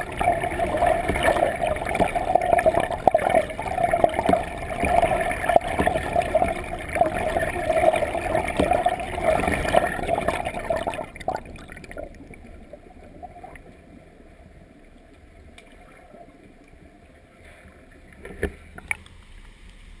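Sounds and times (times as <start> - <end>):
muffled underwater rushing: 0.0 - 20.0.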